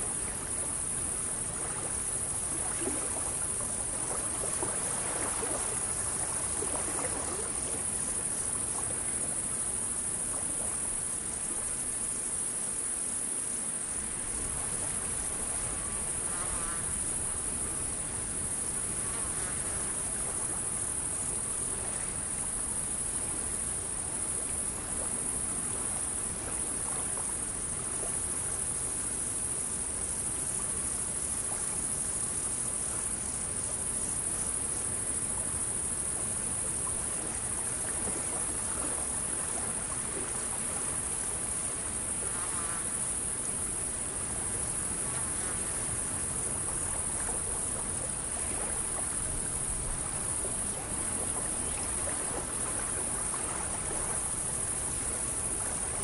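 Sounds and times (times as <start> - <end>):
crickets chirping: 0.0 - 56.0
soft background hiss: 0.0 - 56.0.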